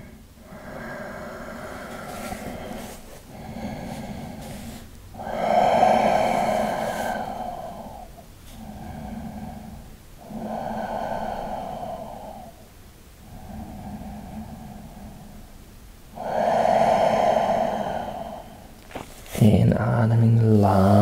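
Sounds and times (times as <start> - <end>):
person breathing slowly: 0.0 - 19.5.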